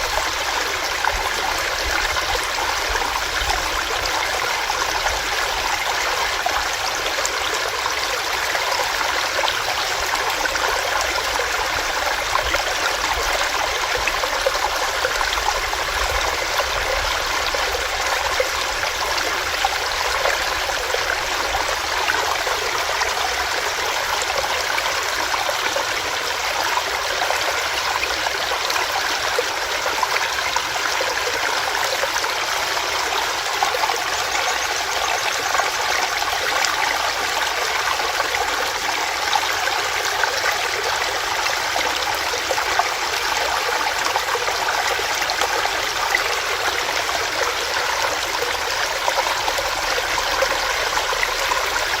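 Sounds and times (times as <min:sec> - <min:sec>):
stream water rushing over rocks: 0:00.0 - 0:52.0.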